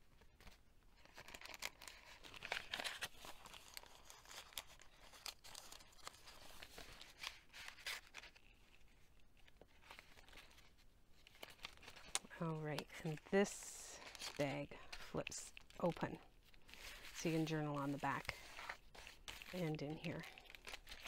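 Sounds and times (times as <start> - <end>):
paper rustling and scraping: 0.2 - 21.0.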